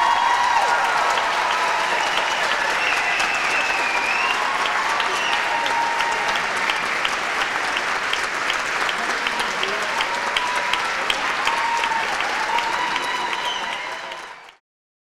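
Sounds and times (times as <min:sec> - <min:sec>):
crowd shouting and whooping: 0:00.0 - 0:08.0, 0:09.0 - 0:14.6
audience clapping: 0:00.0 - 0:14.6.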